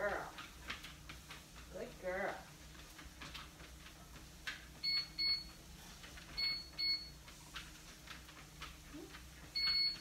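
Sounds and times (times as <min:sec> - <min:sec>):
treadmill humming: 0:00.0 - 0:10.0.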